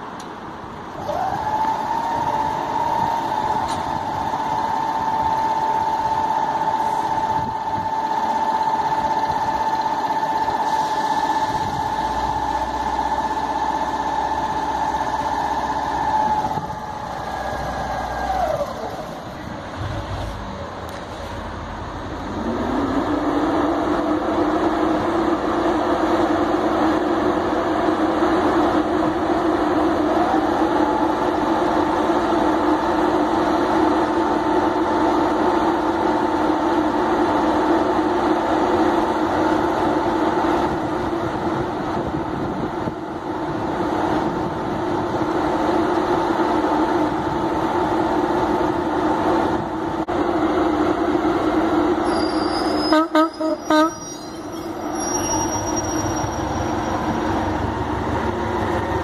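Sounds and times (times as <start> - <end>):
diesel engine running: 0.0 - 59.0
locomotive whine: 0.0 - 59.0.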